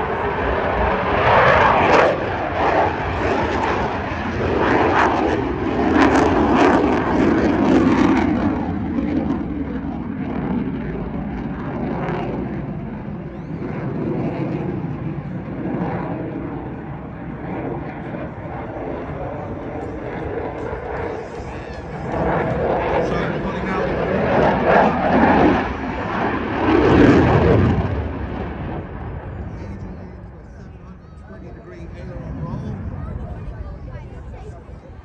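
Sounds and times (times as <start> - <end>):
airplane engine flying past: 0.0 - 35.0.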